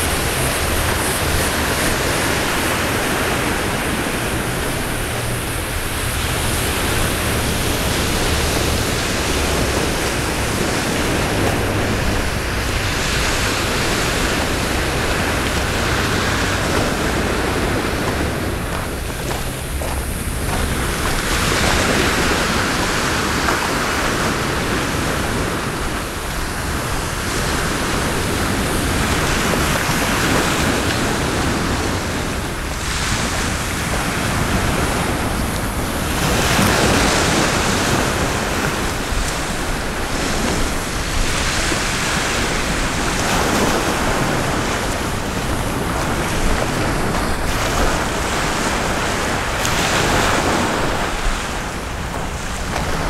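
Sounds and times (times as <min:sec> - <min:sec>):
sea waves washing on shore: 0:00.0 - 0:53.0
wind buffeting microphone: 0:00.0 - 0:53.0.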